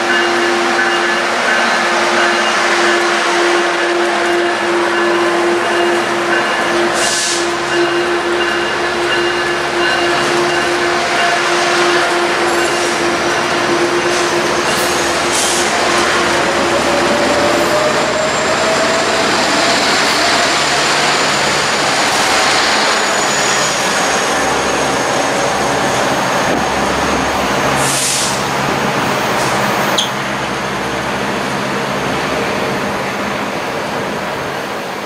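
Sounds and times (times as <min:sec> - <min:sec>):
train wheels rushing on rail: 0:00.0 - 0:35.0.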